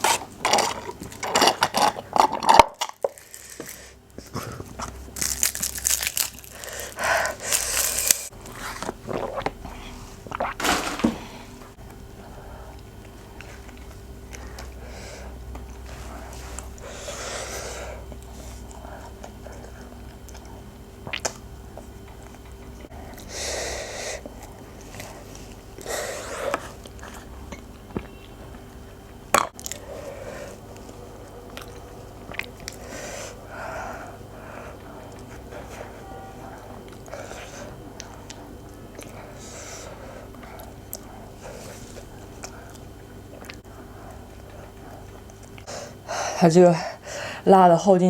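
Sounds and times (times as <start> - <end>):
person chewing: 0.0 - 10.6, 11.8 - 23.4, 24.2 - 46.1.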